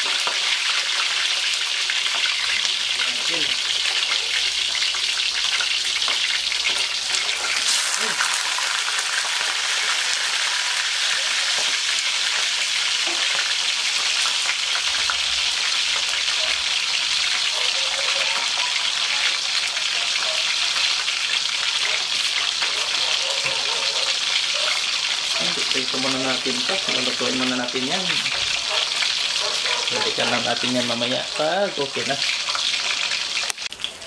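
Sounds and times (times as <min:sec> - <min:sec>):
fish sizzling in hot oil: 0:00.0 - 0:34.0
oil spitting crackles: 0:00.2 - 0:17.5, 0:19.3 - 0:34.0.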